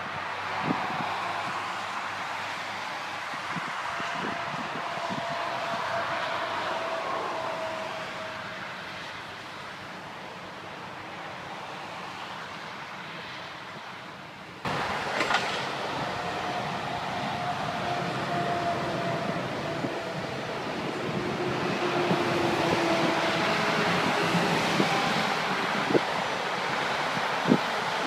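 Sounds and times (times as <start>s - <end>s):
faint vehicle whine: 0.0s - 28.0s
passing cars and lorries: 0.0s - 28.0s.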